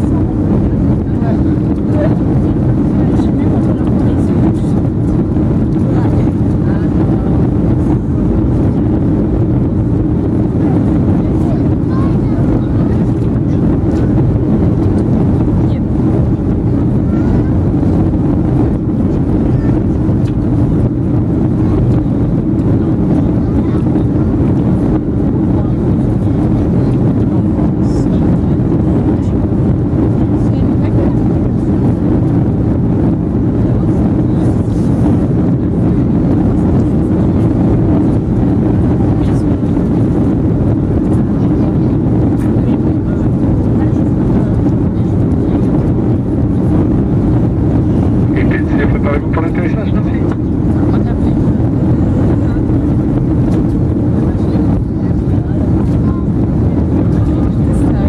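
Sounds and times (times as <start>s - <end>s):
airflow past fuselage: 0.0s - 58.0s
jet engines rumbling: 0.0s - 58.0s.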